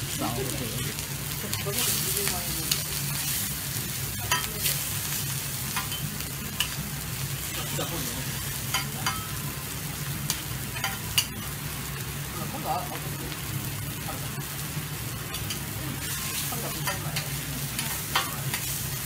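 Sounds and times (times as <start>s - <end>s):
steak sizzling on griddle: 0.0s - 19.0s.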